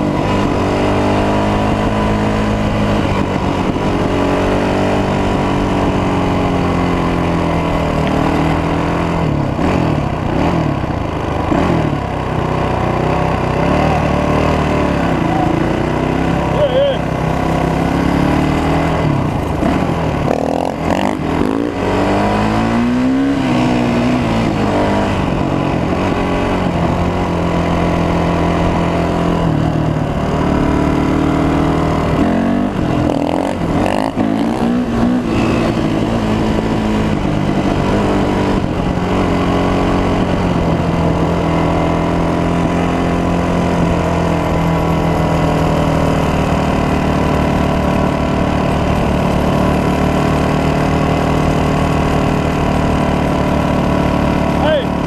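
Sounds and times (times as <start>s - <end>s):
dirt bike engine revving: 0.0s - 55.0s
wind and road noise: 0.0s - 55.0s.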